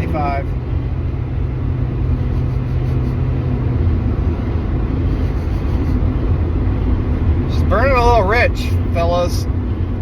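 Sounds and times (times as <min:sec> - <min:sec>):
car engine drone: 0:00.0 - 0:10.0
low steady hum: 0:00.0 - 0:10.0
road noise inside car: 0:00.0 - 0:10.0.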